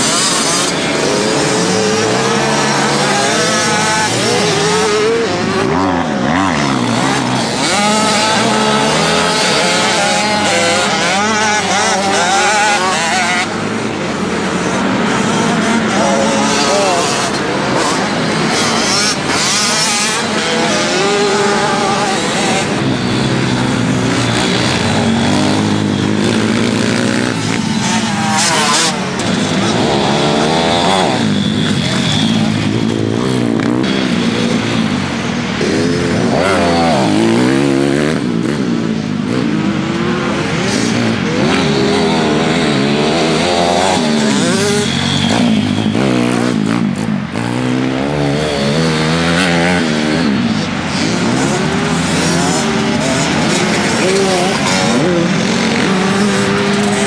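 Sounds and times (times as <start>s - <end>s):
pit bike engines revving: 0.0s - 57.0s.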